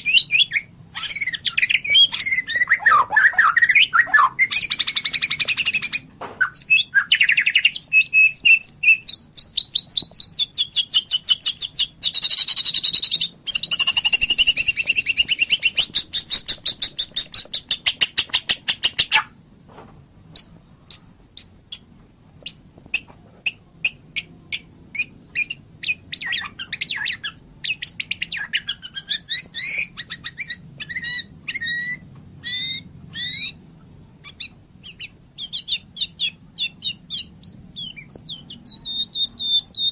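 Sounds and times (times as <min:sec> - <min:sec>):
bird singing trills and whistles: 0:00.0 - 0:19.5, 0:22.5 - 0:39.9.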